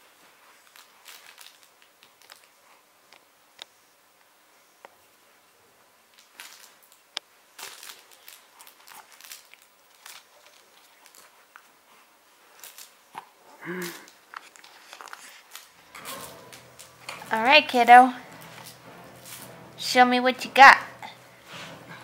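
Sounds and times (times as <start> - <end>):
play mat rustling and crinkling: 0.0 - 3.8, 6.0 - 22.0.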